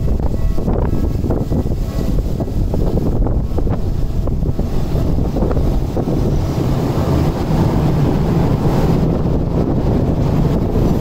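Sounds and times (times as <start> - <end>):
light-rail car passing: 0.0 - 11.0
wind buffeting microphone: 0.0 - 11.0.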